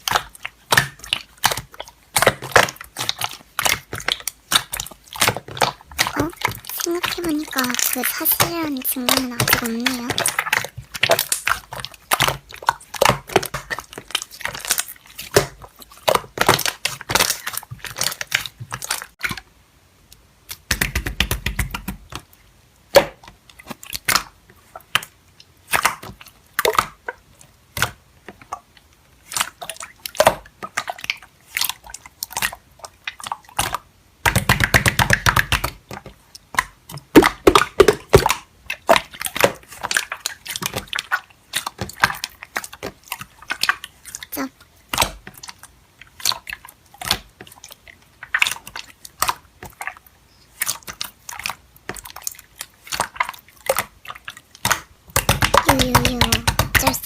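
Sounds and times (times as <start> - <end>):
slime squishing and crackling: 0.0 - 19.4, 22.9 - 57.0.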